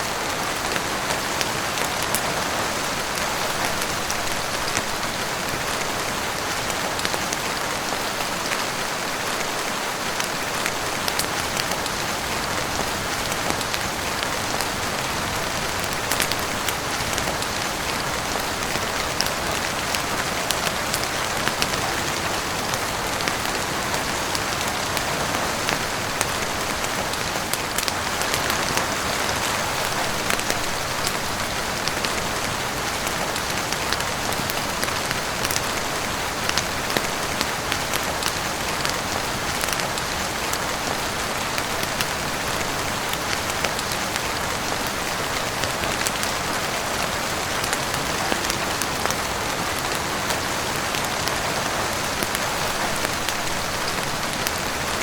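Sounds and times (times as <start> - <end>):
heavy rain on roof and windows: 0.0 - 55.0.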